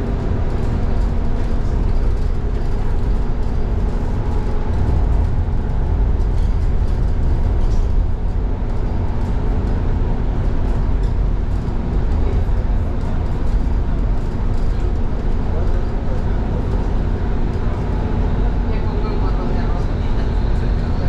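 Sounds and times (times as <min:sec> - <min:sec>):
faint constant hum: 0:00.0 - 0:21.0
low road rumble: 0:00.0 - 0:21.0.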